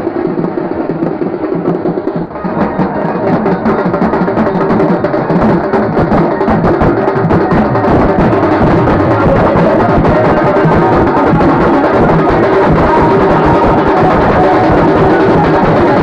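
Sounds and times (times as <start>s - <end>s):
loud music with heavy drumming: 0.0s - 16.0s.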